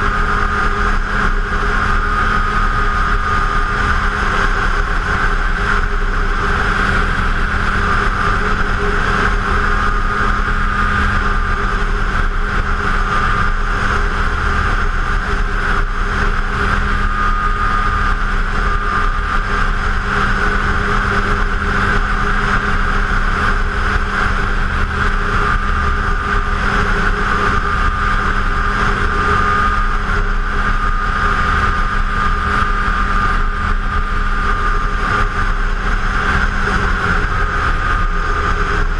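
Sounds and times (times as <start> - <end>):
snowmobile engine running: 0.0 - 38.9
snowmobile track noise: 0.0 - 38.9.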